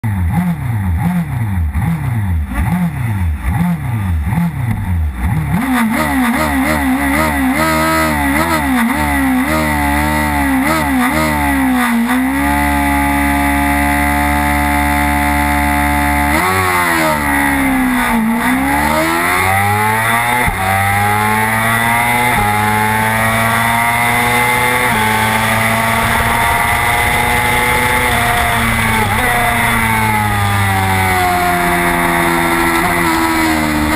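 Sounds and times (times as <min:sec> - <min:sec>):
racing motorcycle engine revving: 0:00.0 - 0:33.9.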